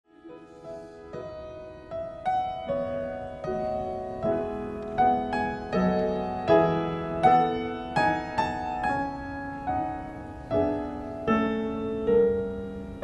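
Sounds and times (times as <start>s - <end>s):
grand piano playing slow chords: 0.1s - 13.0s.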